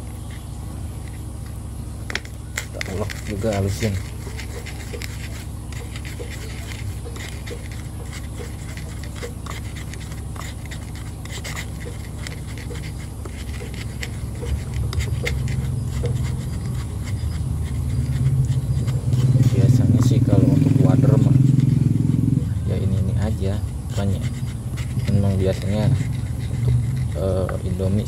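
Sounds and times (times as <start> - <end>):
low engine hum: 0.0 - 28.0
pestle grinding in wooden mortar: 1.0 - 28.0.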